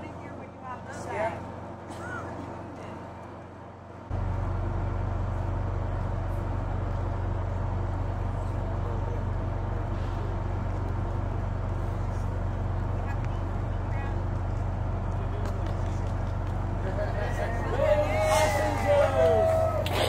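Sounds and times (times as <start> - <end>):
train passing rumble: 0.0 - 20.0.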